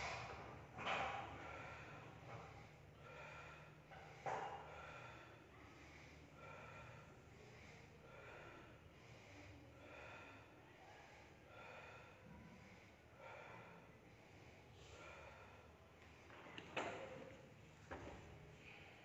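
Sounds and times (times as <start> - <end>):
man breathing heavily: 0.0 - 19.0.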